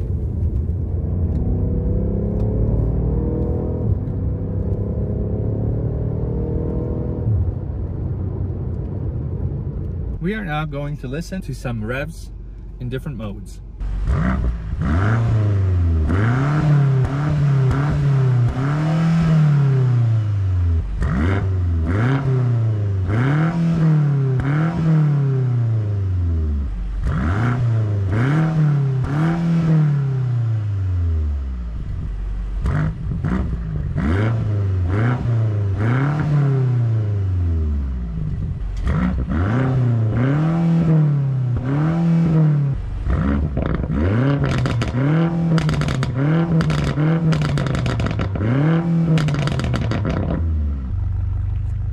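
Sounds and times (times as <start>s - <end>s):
car engine throttle blips: 0.0s - 51.9s.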